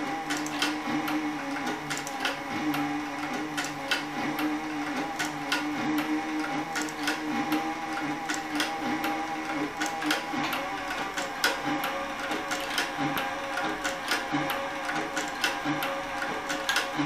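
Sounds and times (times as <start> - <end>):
sewing machine motor hum: 0.0 - 17.0.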